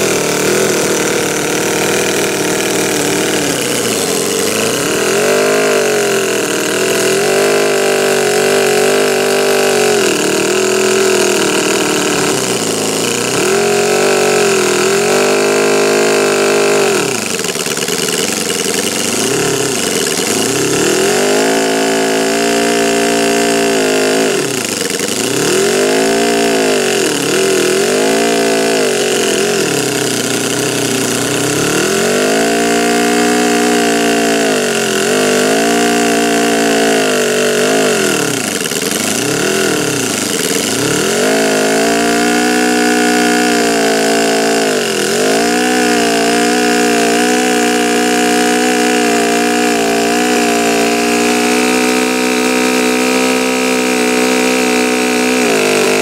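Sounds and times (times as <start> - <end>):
model engine revving: 0.0 - 56.0.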